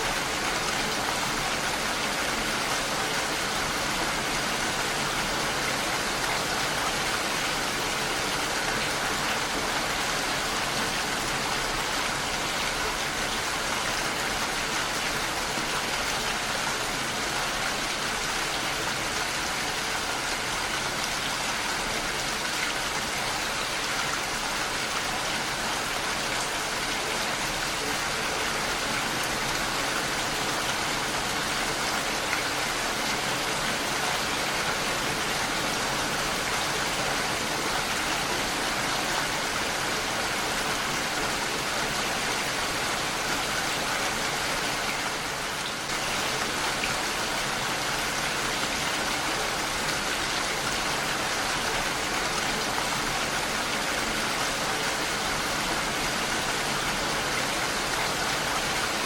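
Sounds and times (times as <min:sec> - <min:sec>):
heavy rain on a window: 0:00.0 - 0:59.0.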